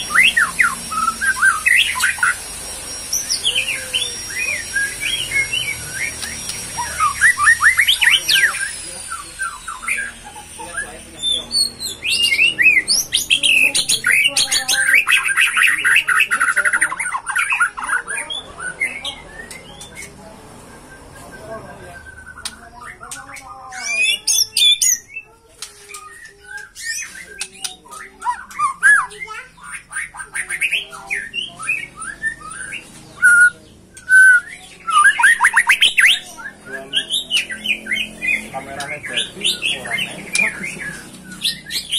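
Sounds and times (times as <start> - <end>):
bird singing with trills: 0.0 - 41.9.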